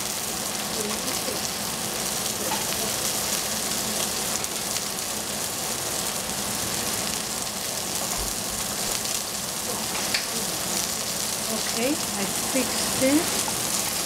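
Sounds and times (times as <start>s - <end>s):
vegetables sizzling in a saucepan: 0.0s - 14.0s.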